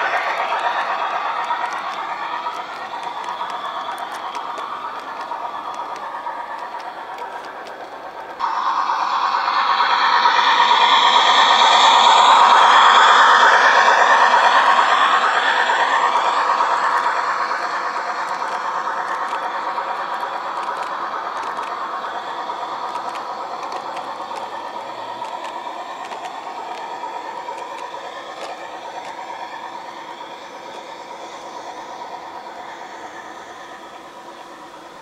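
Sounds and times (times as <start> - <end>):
model train wheels rattling: 0.0 - 35.0.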